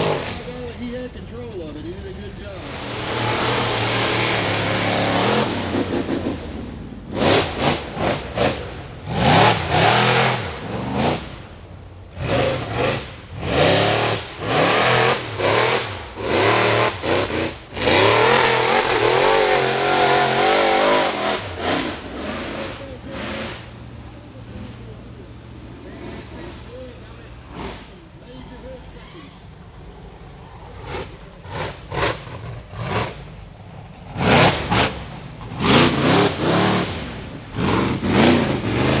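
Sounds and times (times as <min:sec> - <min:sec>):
buggy engine revving: 0:00.0 - 0:39.0.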